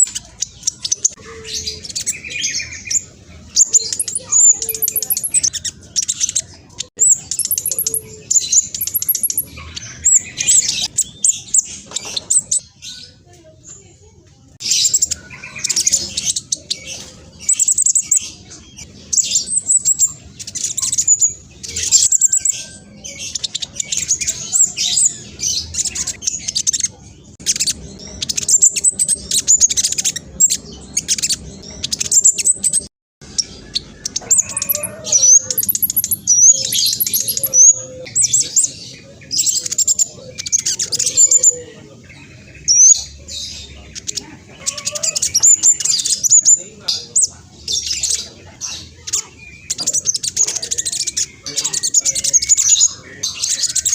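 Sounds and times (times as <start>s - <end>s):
bird singing high chattering phrases: 0.0s - 53.9s.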